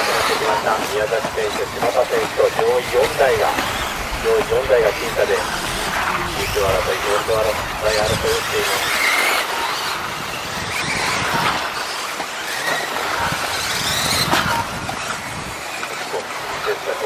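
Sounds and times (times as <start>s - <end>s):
electric rc car motors whining: 0.0s - 17.0s.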